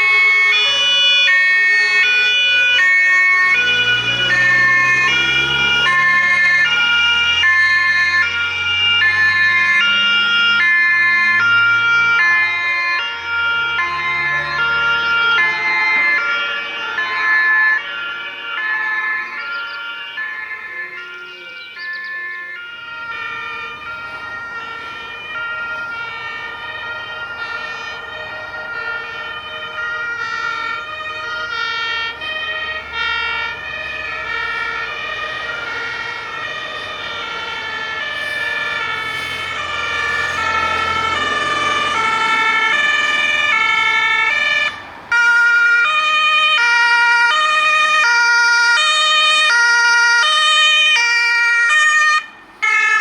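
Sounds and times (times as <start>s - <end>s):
fire engine two-tone sirens: 0.0s - 53.0s
truck engines rumbling: 0.0s - 53.0s.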